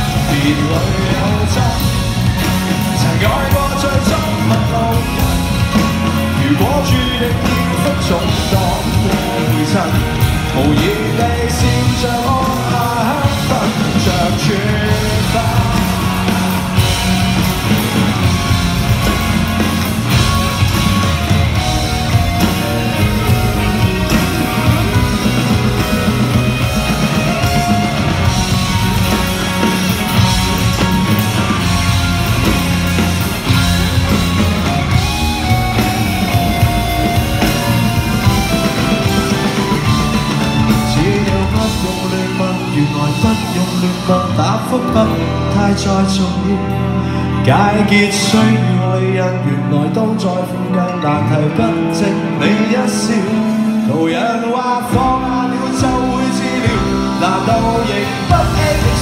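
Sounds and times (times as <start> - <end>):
live rock band through pa: 0.0 - 59.0.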